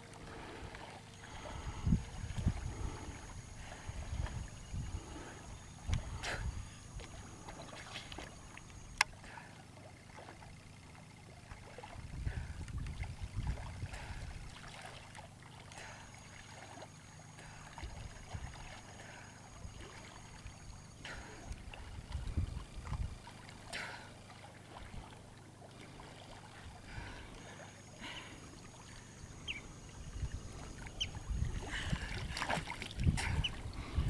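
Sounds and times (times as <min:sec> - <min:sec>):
swimmer splashing water: 0:00.0 - 0:34.0.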